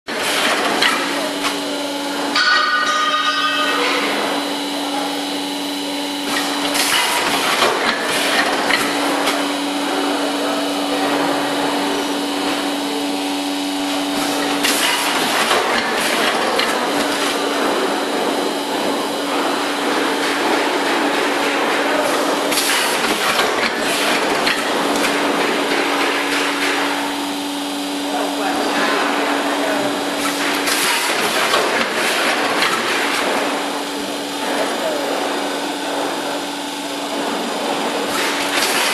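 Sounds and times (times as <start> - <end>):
packaging machine hum and hiss: 0.1 - 38.9.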